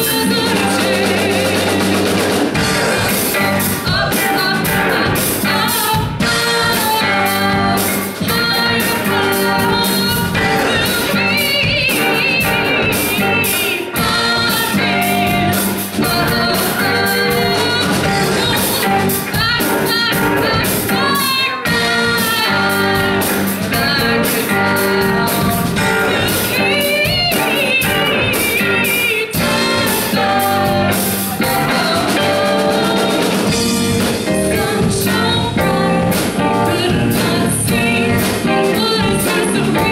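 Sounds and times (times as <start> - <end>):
bass guitar: 0.0 - 39.9
drum kit: 0.0 - 39.9
electric guitar: 0.0 - 39.9
woman singing lead: 0.0 - 39.9.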